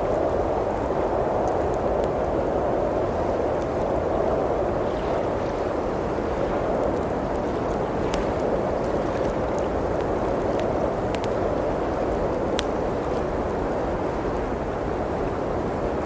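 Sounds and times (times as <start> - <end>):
blizzard wind blowing: 0.0 - 16.0
wood fire crackling: 0.0 - 16.0.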